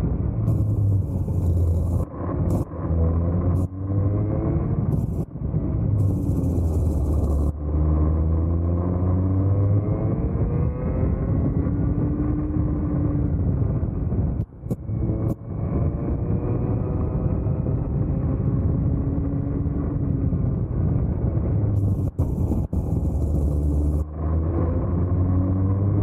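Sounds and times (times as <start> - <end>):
kart engine at full throttle: 0.0 - 26.0.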